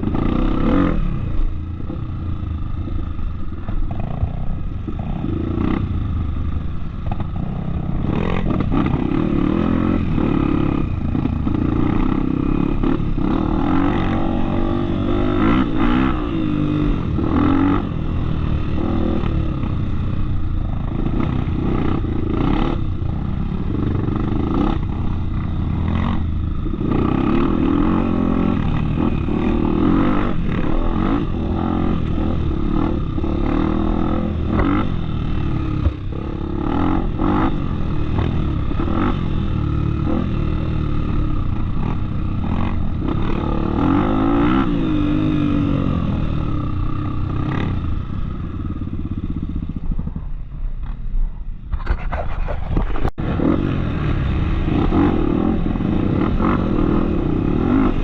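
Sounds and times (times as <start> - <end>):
motorcycle engine revving: 0.0 - 58.0
motorcycle rattling over rough ground: 0.0 - 58.0.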